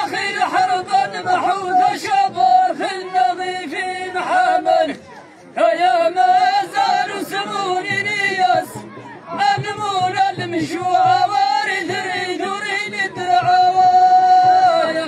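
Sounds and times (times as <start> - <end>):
men singing together: 0.0 - 5.0, 5.6 - 15.0.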